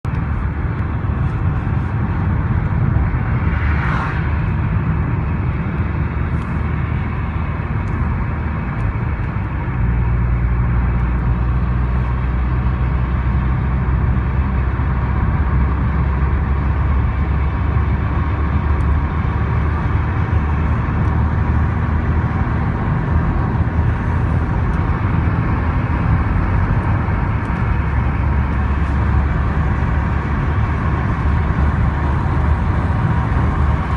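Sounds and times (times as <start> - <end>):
car engine droning: 0.0 - 33.9.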